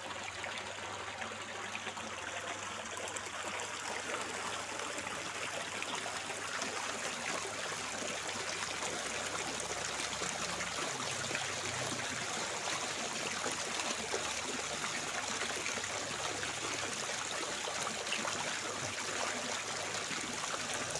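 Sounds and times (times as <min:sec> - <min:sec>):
running water trickling: 0:00.0 - 0:20.9.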